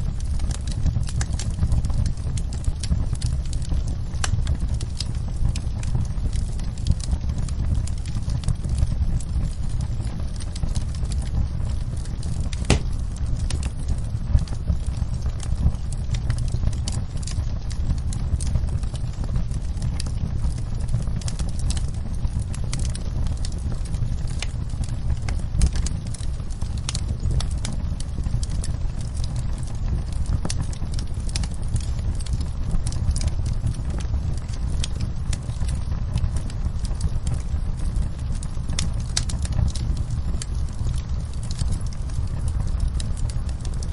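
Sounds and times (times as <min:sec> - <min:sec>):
low roar of flames: 0:00.0 - 0:43.9
wood fire crackling: 0:00.0 - 0:43.9
fire pop: 0:00.5 - 0:43.9.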